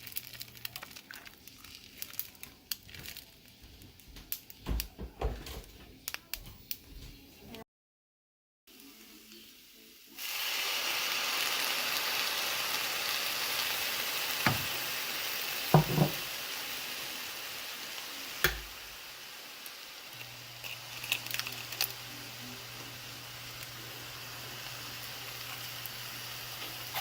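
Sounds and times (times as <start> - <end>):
food sizzling in a hot pan: 0.0 - 4.9, 8.7 - 27.0.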